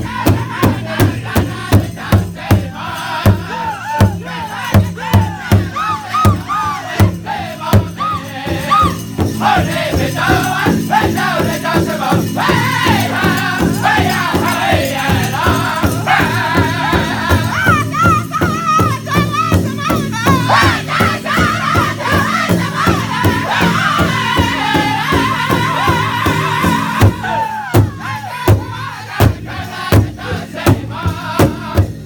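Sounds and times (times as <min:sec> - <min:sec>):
high-pitched group singing: 0:00.0 - 0:32.0
large drum beating: 0:00.0 - 0:32.0.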